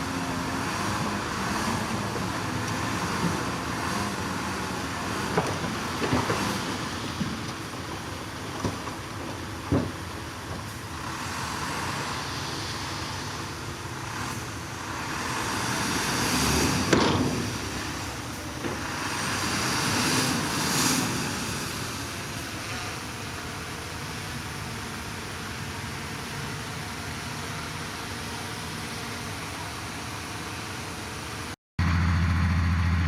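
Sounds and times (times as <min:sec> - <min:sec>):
heavy machinery diesel engine: 0:00.0 - 0:33.0.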